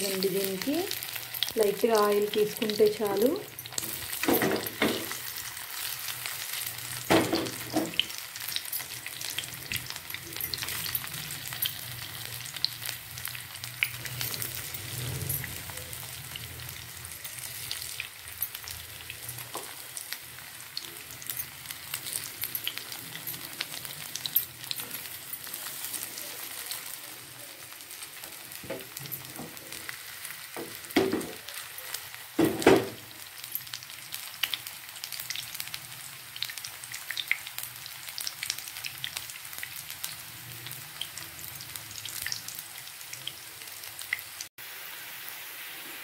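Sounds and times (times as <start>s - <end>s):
banana slices sizzling in oil: 0.0s - 46.0s.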